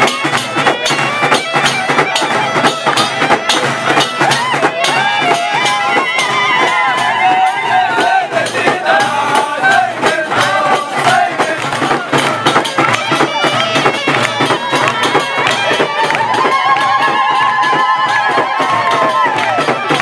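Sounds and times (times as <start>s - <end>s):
crowd: 0.0s - 20.0s
frame drums beating fast: 0.0s - 20.0s
sung or piped melody: 0.0s - 20.0s.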